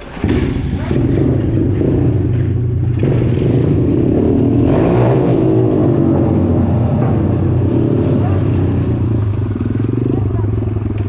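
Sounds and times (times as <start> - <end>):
dirt bike engine idling: 0.0 - 11.0.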